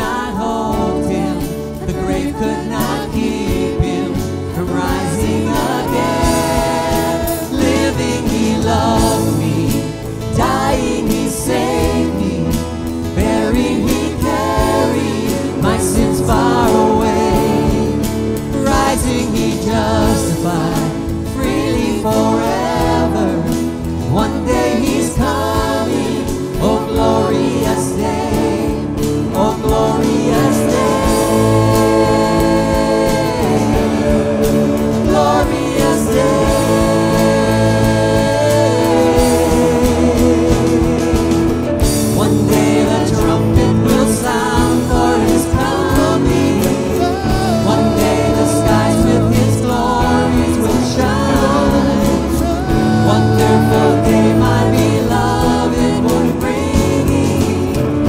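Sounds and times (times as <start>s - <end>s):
instrumental backing: 0.0s - 58.0s
people singing worship song: 0.0s - 58.0s.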